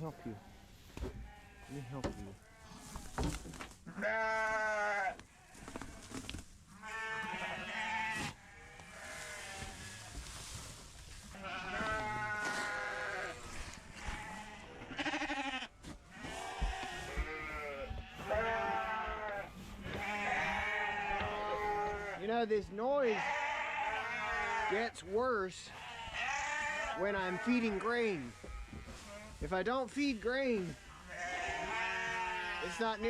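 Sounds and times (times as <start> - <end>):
sheep bleating loudly: 1.3 - 2.9, 3.9 - 6.1, 6.8 - 10.2, 11.3 - 29.6, 30.5 - 33.0.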